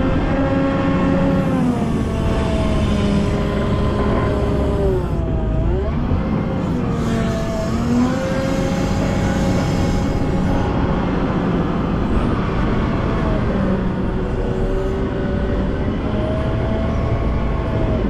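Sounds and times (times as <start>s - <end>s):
wheel loader diesel engine: 0.0s - 18.0s.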